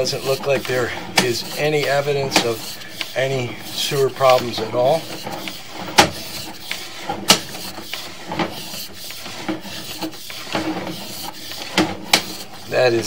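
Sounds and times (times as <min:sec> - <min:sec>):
push rod scraping in pipe: 0:00.0 - 0:13.0.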